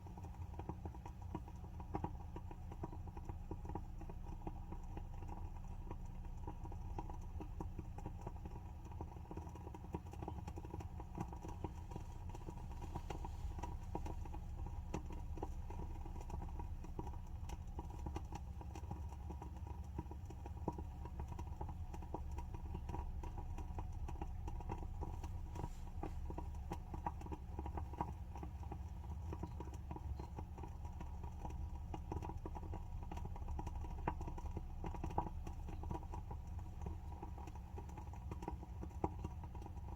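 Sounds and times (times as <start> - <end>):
low steady hum: 0.0 - 39.9
candle wick crackling: 0.1 - 39.9.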